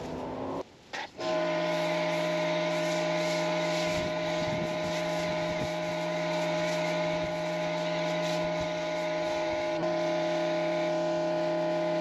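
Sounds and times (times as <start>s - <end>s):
foam spray hissing: 0.0s - 12.0s
pressure washer motor humming: 0.0s - 12.0s.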